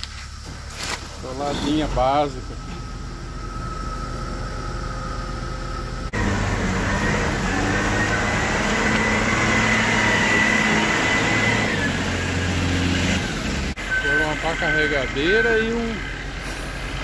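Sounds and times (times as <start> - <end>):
diesel engine running: 0.0 - 17.0
high whine: 0.0 - 17.0.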